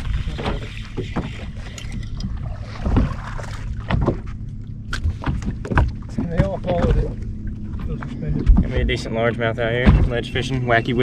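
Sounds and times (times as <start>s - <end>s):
knocks and thumps on a boat: 0.0s - 11.0s
steady low hum: 0.0s - 11.0s.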